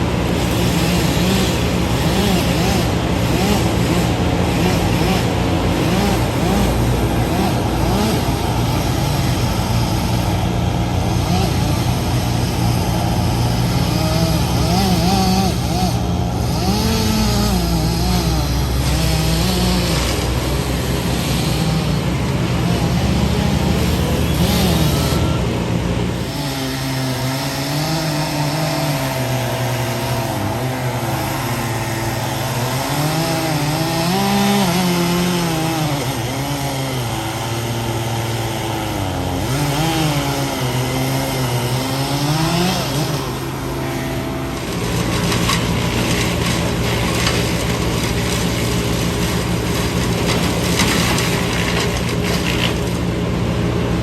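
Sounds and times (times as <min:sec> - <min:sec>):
chainsaw cutting wood: 0:00.0 - 0:54.0
large engine running: 0:00.0 - 0:54.0.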